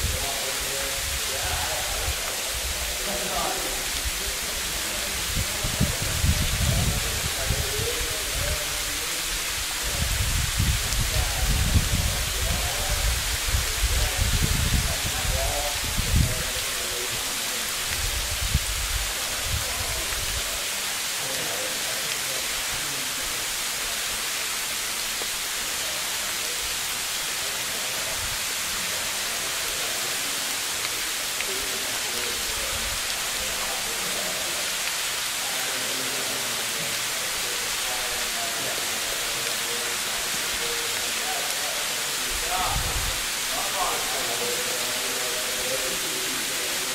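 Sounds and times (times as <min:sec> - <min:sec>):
steady outdoor hiss: 0:00.0 - 0:46.9.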